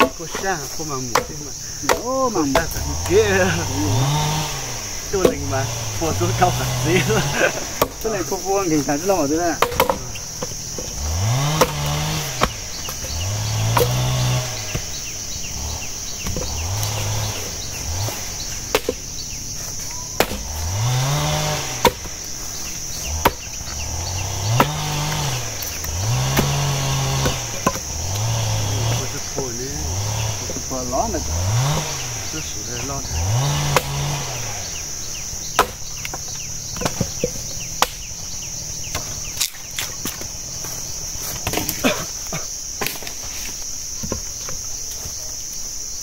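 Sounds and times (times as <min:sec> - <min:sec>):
axe chopping firewood: 0:00.0 - 0:30.4, 0:31.3 - 0:32.2, 0:33.1 - 0:45.1
insects buzzing: 0:00.0 - 0:46.0.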